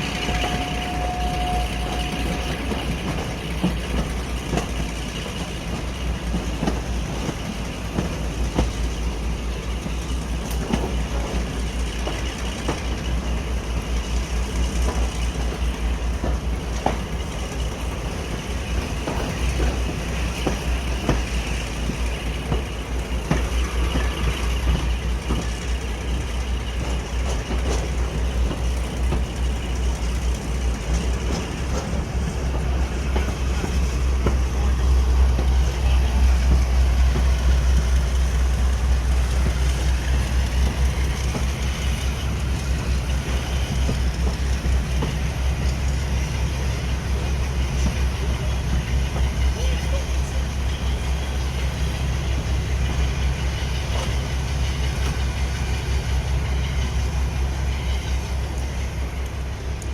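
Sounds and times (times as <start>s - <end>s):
diesel locomotive engine throbbing: 0.0s - 59.9s.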